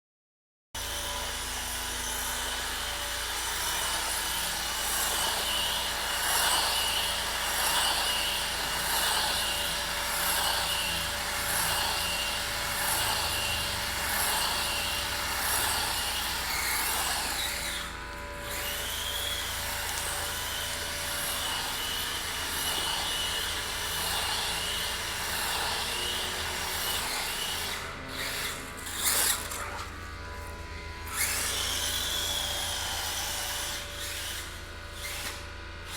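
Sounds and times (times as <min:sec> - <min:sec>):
toy truck motor whining: 0:03.5 - 0:35.9.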